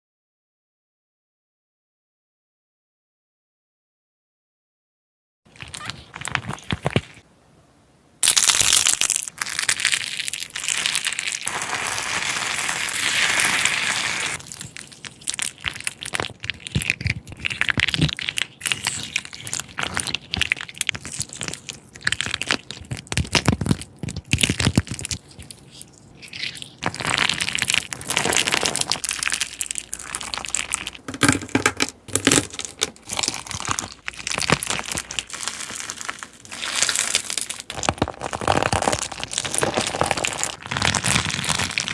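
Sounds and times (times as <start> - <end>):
hands squishing slime: 5.5 - 7.2, 8.2 - 41.9.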